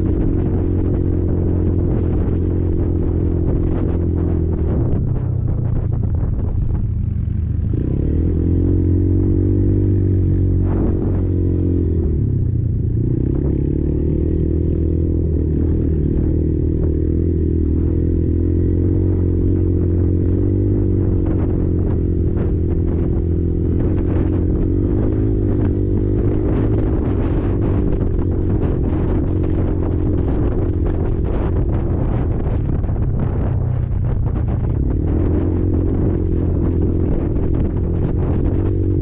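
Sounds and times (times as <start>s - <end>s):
quad bike engine running: 0.0s - 39.0s.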